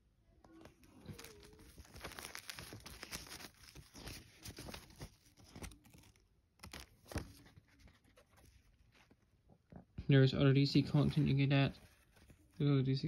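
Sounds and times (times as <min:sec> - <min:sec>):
paper leaflet rustling and crackling: 0:00.4 - 0:09.7, 0:10.6 - 0:13.0.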